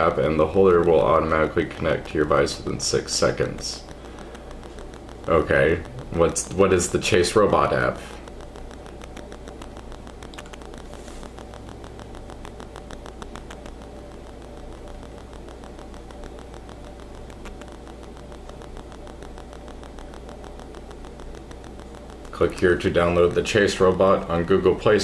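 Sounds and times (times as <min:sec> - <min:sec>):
faint ticking: 0:00.0 - 0:25.0
low hum: 0:00.0 - 0:25.0.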